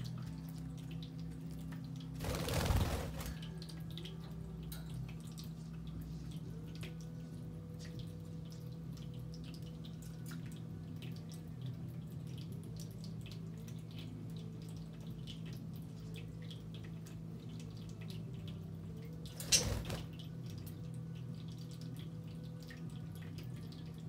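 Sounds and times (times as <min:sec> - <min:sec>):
low steady hum: 0:00.0 - 0:24.0
water fountain trickling and dripping: 0:00.0 - 0:24.0.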